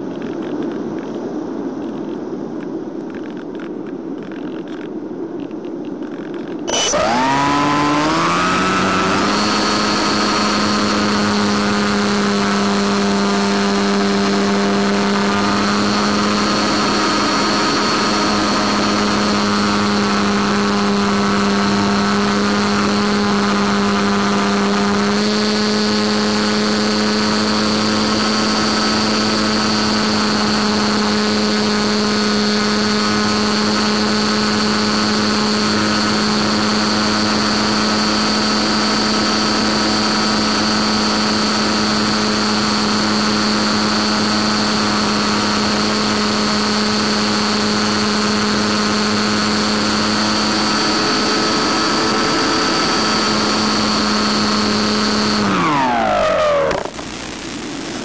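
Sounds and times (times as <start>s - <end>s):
droning hum: 0.0s - 58.0s.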